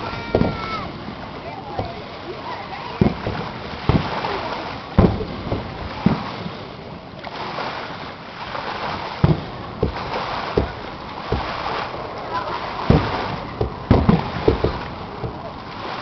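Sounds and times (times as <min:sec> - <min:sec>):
fireworks booming: 0:00.0 - 0:16.0.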